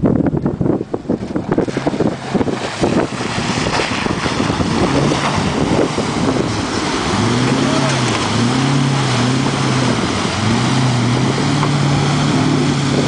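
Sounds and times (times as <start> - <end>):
truck engine under load: 0.0 - 13.0
wind buffeting microphone: 0.0 - 13.0.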